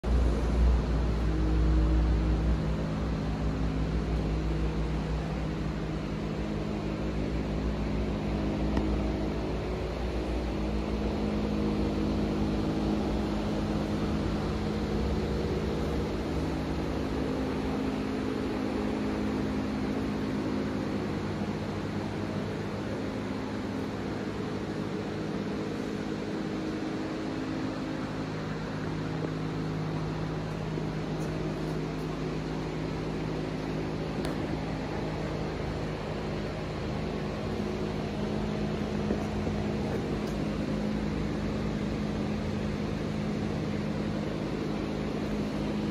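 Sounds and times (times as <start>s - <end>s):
machinery humming: 0.0s - 45.9s.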